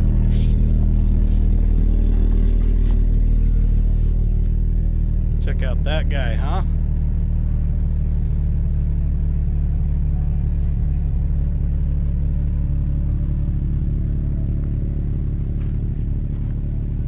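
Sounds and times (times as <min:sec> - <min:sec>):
engine running with low drone: 0:00.0 - 0:17.0.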